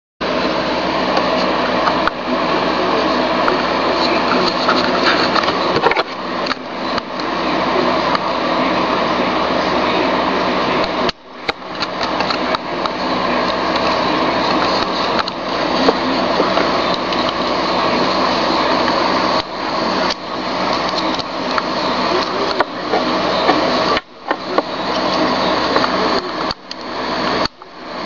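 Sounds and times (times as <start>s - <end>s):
white-noise hiss: 0.2s - 28.0s.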